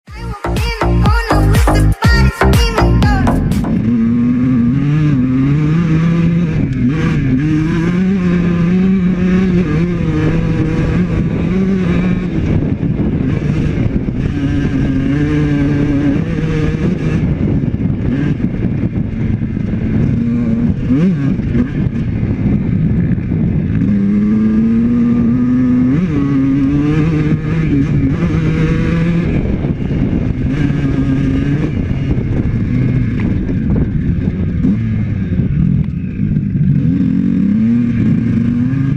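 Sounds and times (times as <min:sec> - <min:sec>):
dirt bike engine revving: 0:00.8 - 0:38.9.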